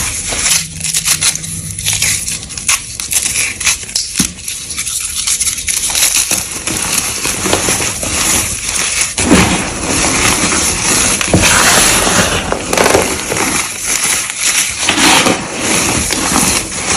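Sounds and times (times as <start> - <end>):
chalk crunching and crackling: 0.0 - 16.9.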